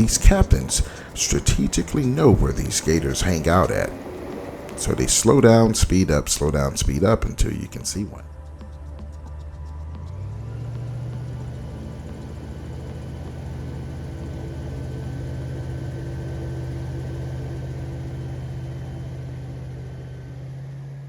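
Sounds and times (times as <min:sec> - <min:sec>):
airboat engine and propeller drone: 0:00.0 - 0:21.0.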